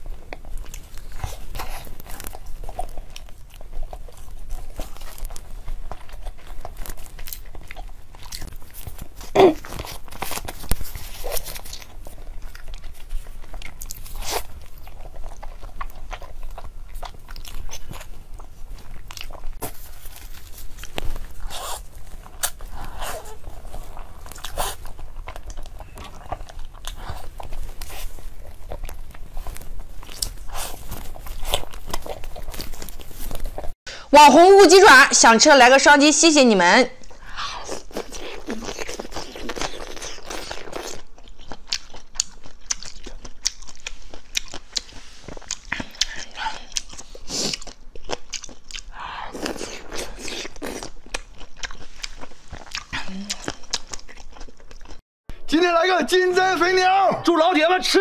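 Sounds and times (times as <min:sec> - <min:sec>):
person chewing crunchy food: 0:00.0 - 0:33.8, 0:37.0 - 0:55.0.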